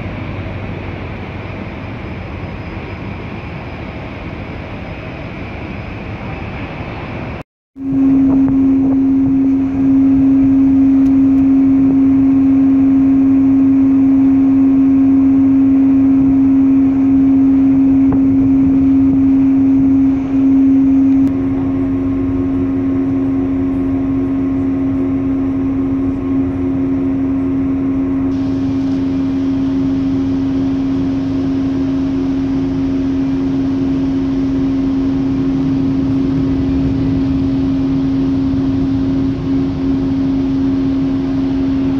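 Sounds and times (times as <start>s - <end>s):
ship machinery hum: 0.0s - 41.9s
higher machine tone: 7.8s - 41.9s.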